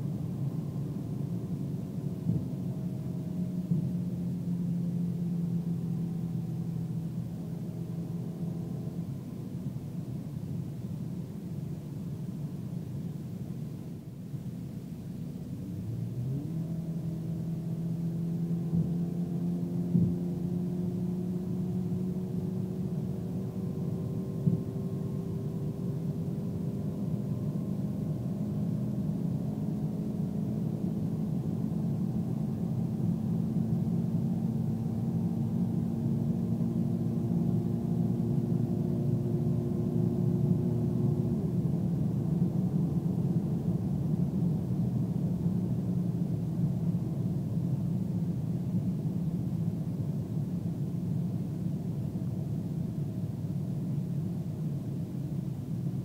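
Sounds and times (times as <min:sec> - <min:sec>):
car engine at full throttle: 0:00.0 - 0:56.0.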